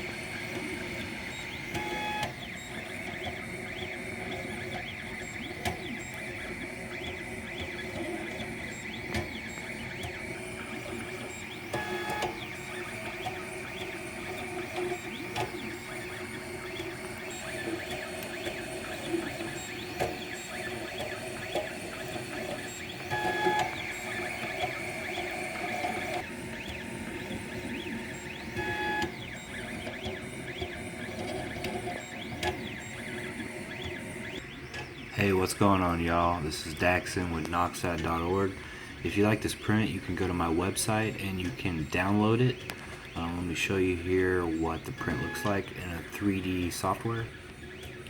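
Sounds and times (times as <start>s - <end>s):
stepper motors whining: 0.0s - 48.0s.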